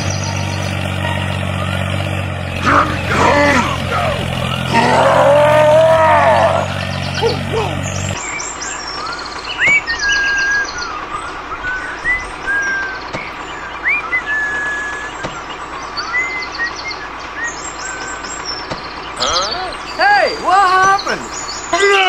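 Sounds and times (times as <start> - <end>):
birds chirping and trilling: 0.0 - 22.0.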